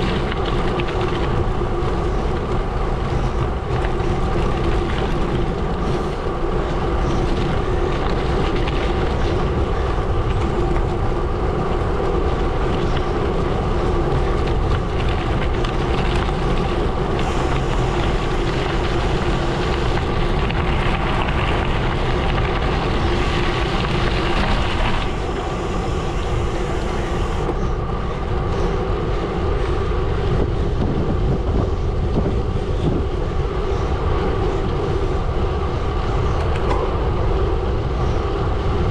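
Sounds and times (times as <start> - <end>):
bike tyres rumbling over gravel: 0.0 - 38.9
steady hum: 0.0 - 38.9.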